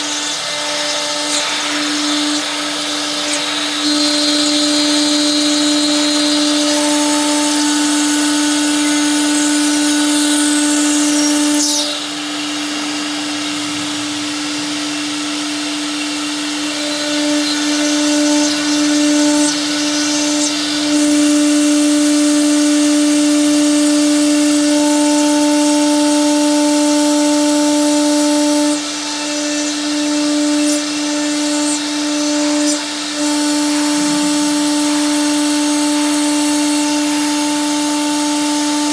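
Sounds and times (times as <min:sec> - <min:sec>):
stone saw grinding: 0:00.0 - 0:12.2, 0:15.8 - 0:38.9.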